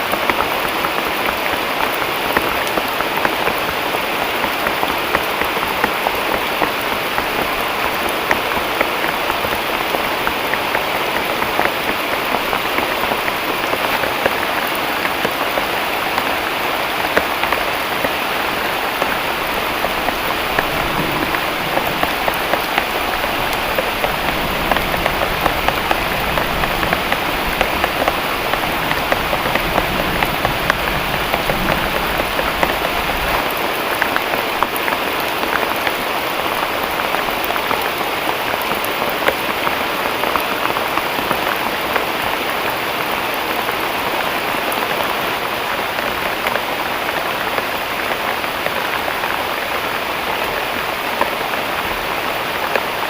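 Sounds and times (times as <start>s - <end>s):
heavy rain falling: 0.0s - 53.0s
raindrops ticking on a surface: 0.0s - 53.0s.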